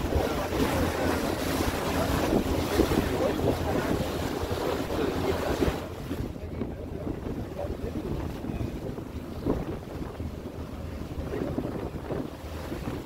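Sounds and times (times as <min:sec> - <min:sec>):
ferry engine drone: 0:00.0 - 0:13.0
water rushing past hull: 0:00.0 - 0:13.0
wind buffeting microphone: 0:00.0 - 0:13.0.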